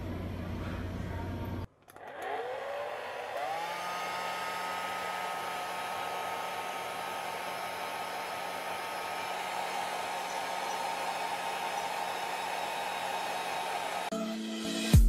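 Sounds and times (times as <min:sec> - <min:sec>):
hair dryer running: 0:01.9 - 0:14.1.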